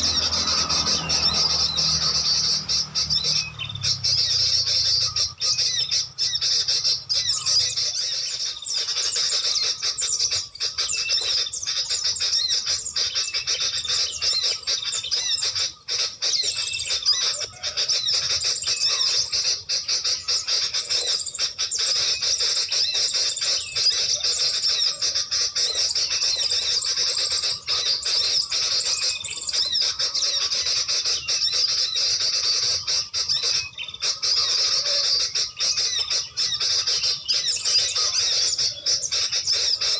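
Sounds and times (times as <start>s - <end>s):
high-pitched bird calls chattering: 0.0s - 39.9s.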